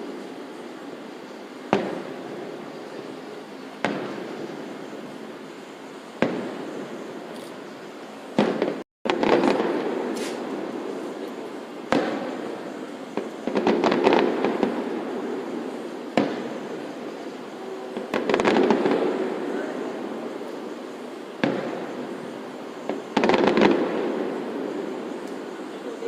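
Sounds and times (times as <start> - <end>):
fireworks bangs echoing: 0.0 - 7.7, 8.3 - 26.0
fireworks crackling: 0.0 - 26.0.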